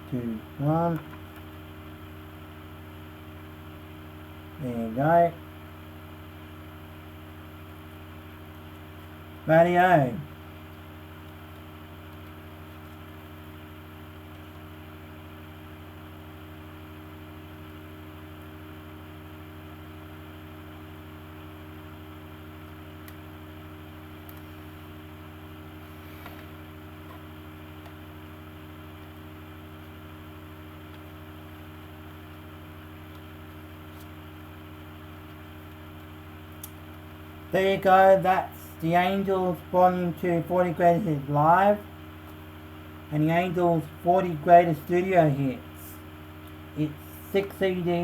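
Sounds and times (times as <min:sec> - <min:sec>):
low electrical hum: 0:00.0 - 0:48.0
room tone hiss: 0:00.0 - 0:48.0.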